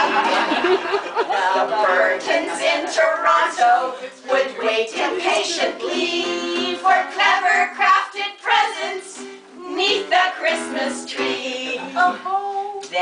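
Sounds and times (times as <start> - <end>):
acoustic guitar: 0.0 - 13.0
women singing together: 1.0 - 13.0.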